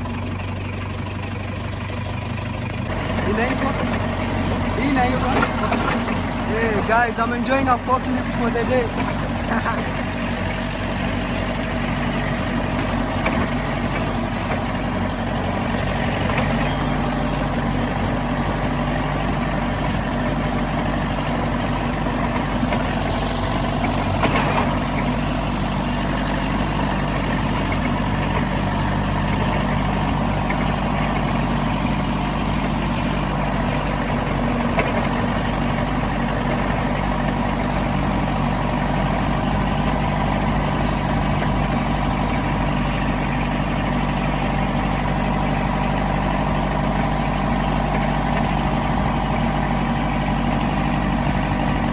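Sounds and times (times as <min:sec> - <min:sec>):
heavy vehicle engine idling: 0:00.0 - 0:51.9.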